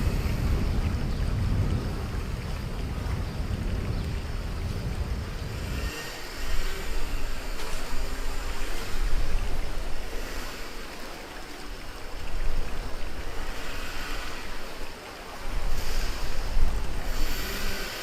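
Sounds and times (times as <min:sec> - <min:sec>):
whitewater rushing and splashing: 0:00.0 - 0:18.0
wind buffeting microphone: 0:00.0 - 0:18.0.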